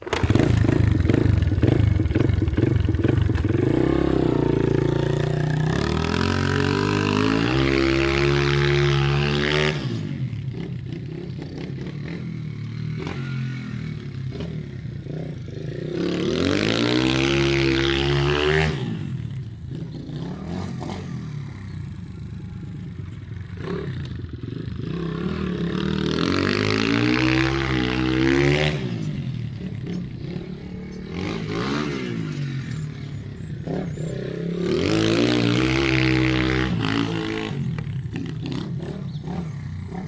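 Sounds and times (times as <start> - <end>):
pit bike engines revving: 0.0 - 40.0.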